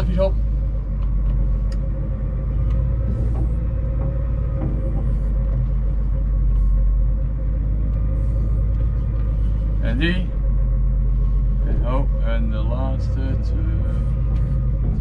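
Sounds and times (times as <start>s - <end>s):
diesel engine drone: 0.0s - 15.0s
steady whine: 0.0s - 15.0s.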